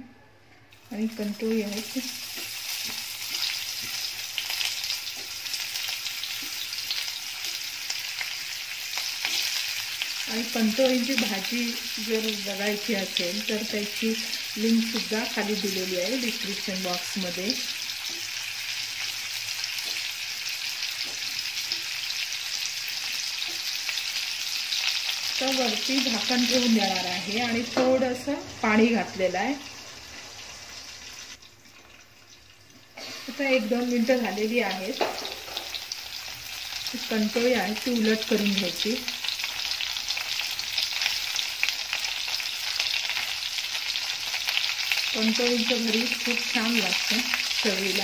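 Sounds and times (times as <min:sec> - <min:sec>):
gourds sizzling in oil: 0:00.7 - 0:48.0.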